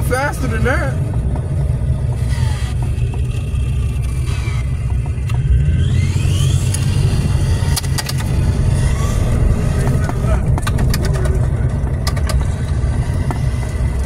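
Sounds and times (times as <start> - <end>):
engine and tyres rumbling: 0.0 - 14.0.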